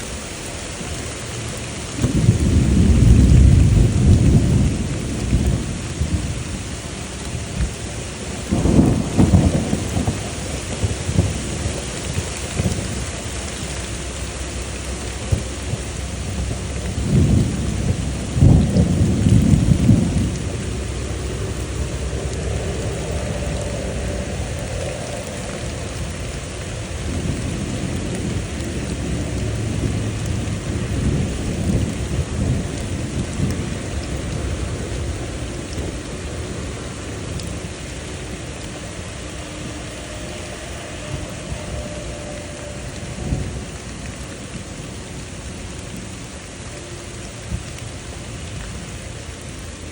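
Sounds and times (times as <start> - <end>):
steady rain falling: 0.0 - 49.9
rolling thunder: 0.8 - 46.3.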